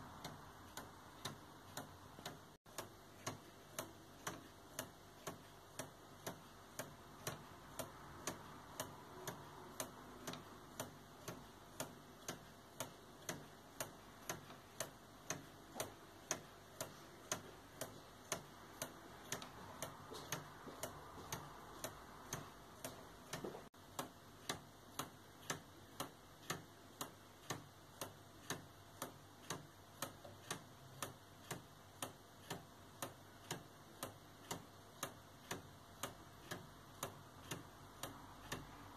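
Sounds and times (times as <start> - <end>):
wooden clock ticking: 0.0 - 38.9.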